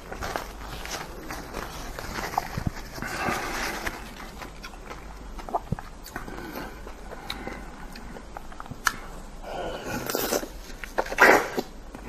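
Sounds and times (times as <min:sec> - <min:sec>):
person chewing soft fruit: 0:00.0 - 0:12.0.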